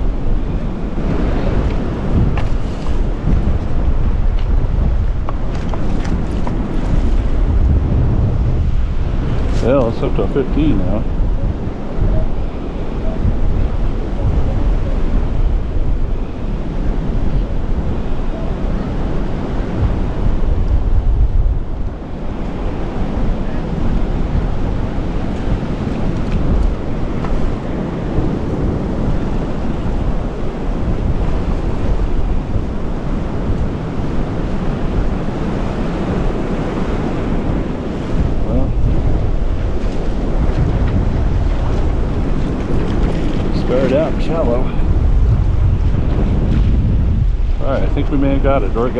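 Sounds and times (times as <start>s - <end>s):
waves breaking in surf: 0.0s - 48.9s
wind buffeting microphone: 0.0s - 48.9s.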